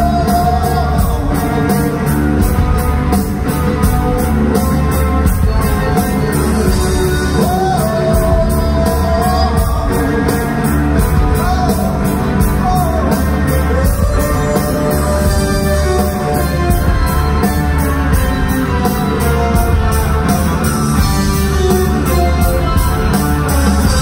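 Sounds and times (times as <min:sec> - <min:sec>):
drums keeping a steady beat: 0:00.0 - 0:24.0
electric guitars: 0:00.0 - 0:24.0.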